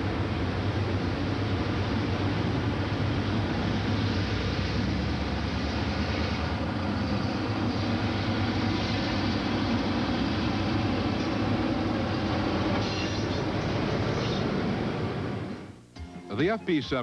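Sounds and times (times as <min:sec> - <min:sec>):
train wheels on rails: 0:00.0 - 0:15.7
diesel engine drone: 0:00.0 - 0:16.8.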